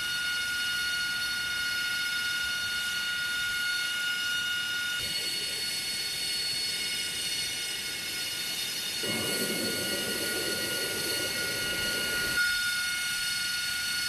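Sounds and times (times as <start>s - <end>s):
jet engine whine: 0.0s - 14.0s.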